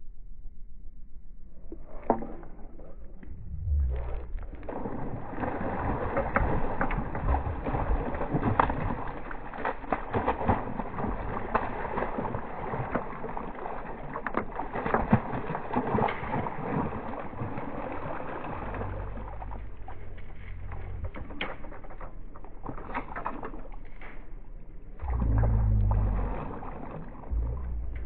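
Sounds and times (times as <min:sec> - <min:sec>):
water sloshing and splashing: 0:01.7 - 0:28.0.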